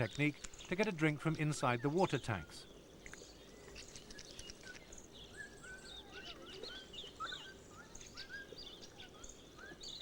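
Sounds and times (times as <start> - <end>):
faint outdoor background hum: 0.0 - 10.0
birds chirping and whistling: 1.6 - 10.0.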